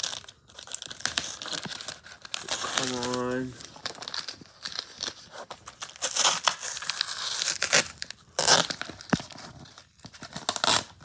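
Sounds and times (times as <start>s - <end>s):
package wrapping crinkling and ripping: 0.0s - 11.0s.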